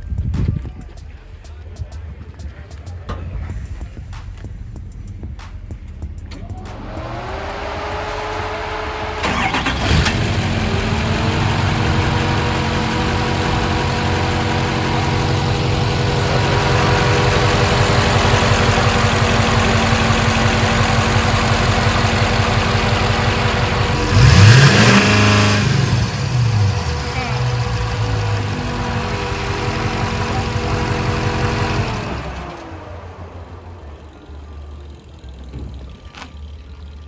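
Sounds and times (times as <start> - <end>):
diesel engine idling: 0.0 - 37.0
starter whine: 3.0 - 37.0
engine revving: 3.3 - 36.1.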